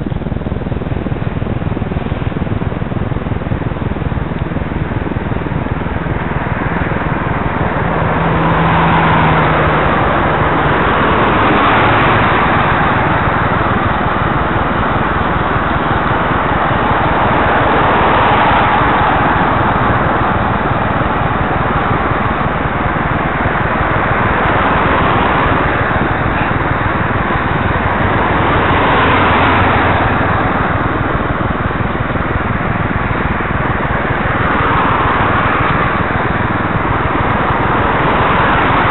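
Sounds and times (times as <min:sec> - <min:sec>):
wind on microphone: 0:00.0 - 0:38.9
traffic passing on wet road: 0:04.1 - 0:38.9.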